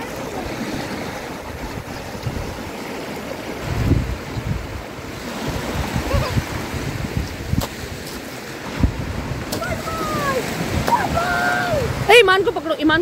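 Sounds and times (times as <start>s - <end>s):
sea waves washing over sand: 0.0s - 13.0s
wind buffeting microphone: 0.0s - 13.0s.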